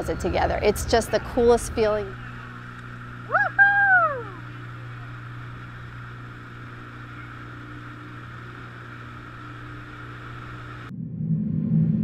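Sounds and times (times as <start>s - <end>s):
motorboat engine humming: 0.0s - 10.9s.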